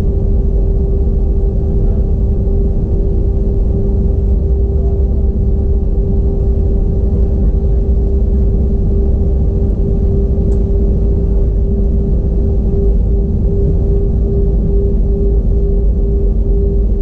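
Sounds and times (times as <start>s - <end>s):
airplane engine and air rumble: 0.0s - 17.0s
constant humming tone: 0.0s - 17.0s.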